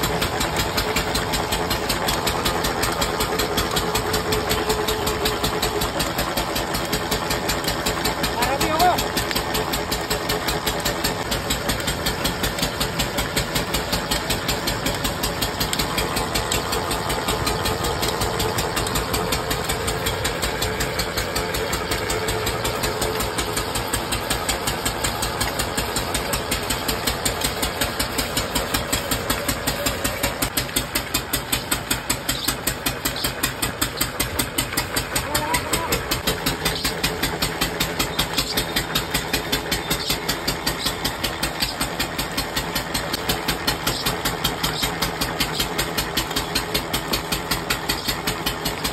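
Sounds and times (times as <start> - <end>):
noodle machine running: 0.0 - 48.9.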